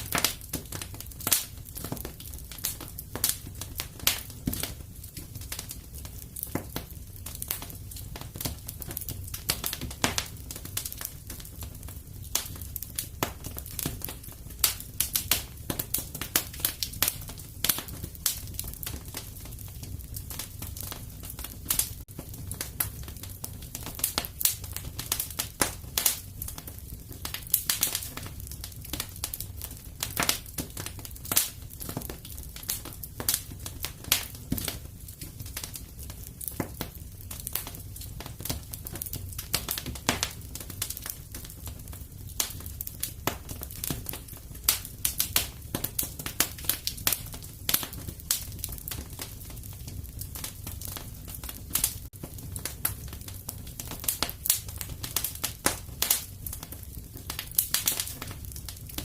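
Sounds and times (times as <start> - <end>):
low rumble of fire: 0.0 - 59.0
wood fire crackling and popping: 0.0 - 59.0.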